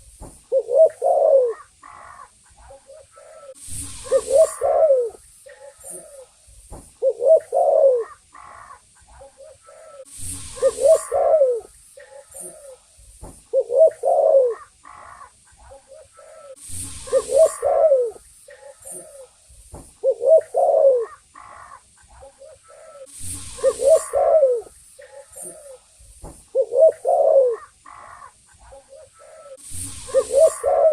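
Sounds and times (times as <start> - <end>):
dove cooing: 0.0 - 6.4, 7.0 - 12.8, 13.5 - 19.4, 20.0 - 25.9, 26.5 - 30.9.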